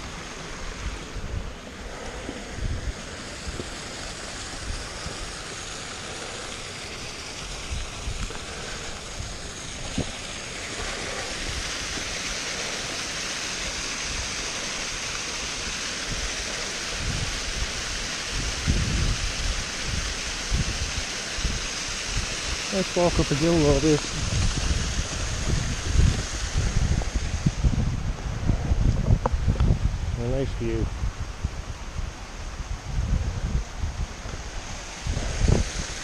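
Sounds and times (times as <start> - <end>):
waterfall rushing: 0.0 - 28.1, 33.6 - 36.0
wind buffeting microphone: 0.0 - 36.0.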